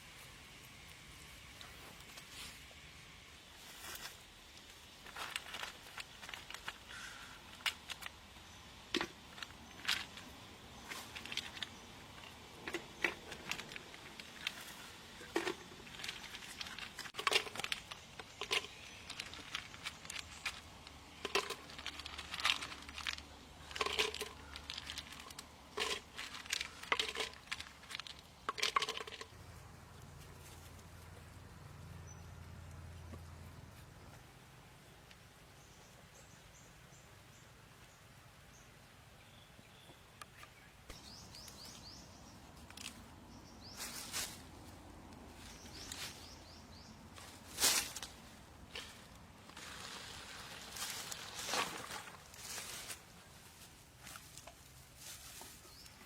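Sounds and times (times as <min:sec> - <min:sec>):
crinkling and crackling: 0:03.5 - 0:34.3, 0:40.9 - 0:56.0.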